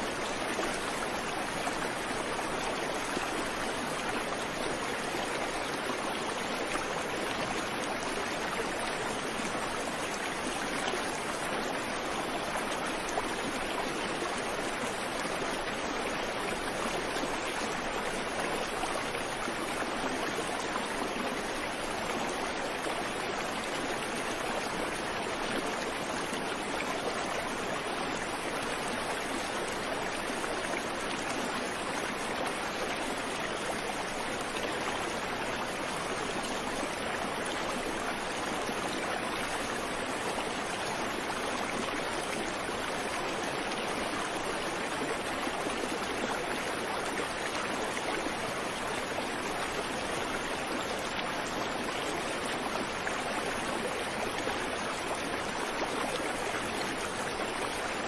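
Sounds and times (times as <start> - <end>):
creek water running over rocks: 0.0 - 58.0.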